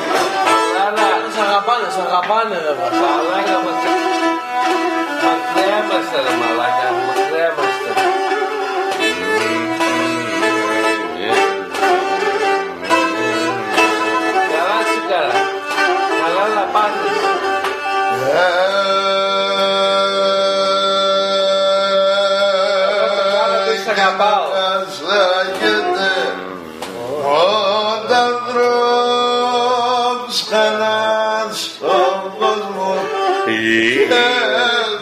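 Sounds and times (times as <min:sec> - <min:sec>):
bowed lyra folk melody: 0:00.0 - 0:31.2, 0:31.8 - 0:35.0
person singing: 0:02.9 - 0:14.7, 0:15.3 - 0:35.0.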